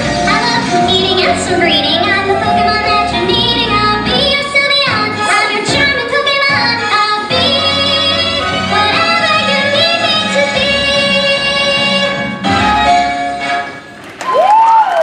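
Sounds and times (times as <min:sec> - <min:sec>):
woman singing: 0:00.0 - 0:12.2
instrumental backing music: 0:00.0 - 0:14.2.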